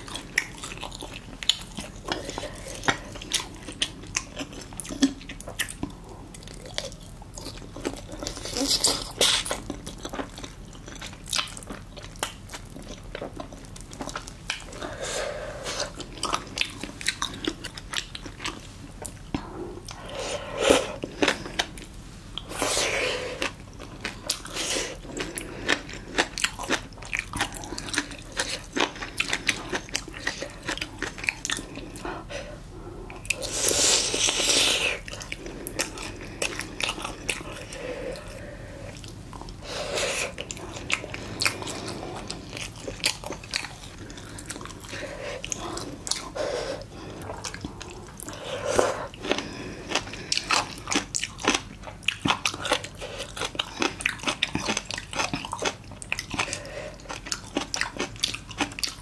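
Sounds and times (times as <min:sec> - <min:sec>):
chewing and crunching food: 0:00.0 - 0:59.0.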